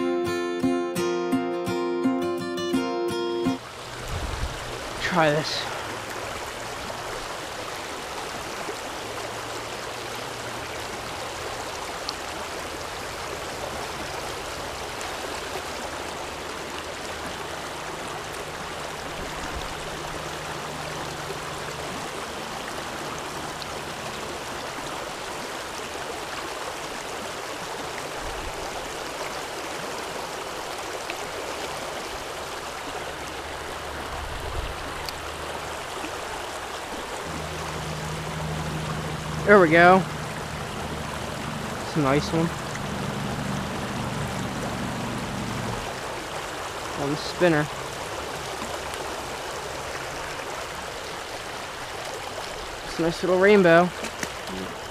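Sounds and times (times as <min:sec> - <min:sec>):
creek running over rocks: 0:03.6 - 0:54.9.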